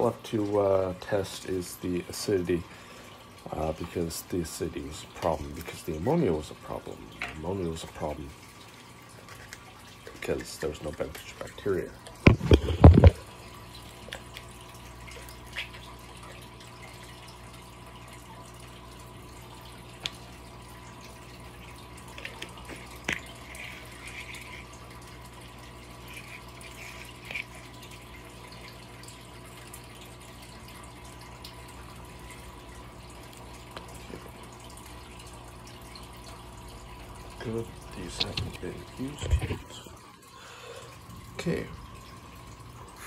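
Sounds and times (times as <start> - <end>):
aquarium filter hum and trickle: 0.0 - 43.0.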